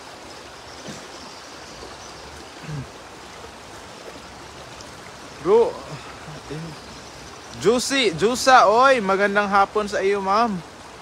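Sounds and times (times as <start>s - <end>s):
fast-flowing river water: 0.0s - 11.0s.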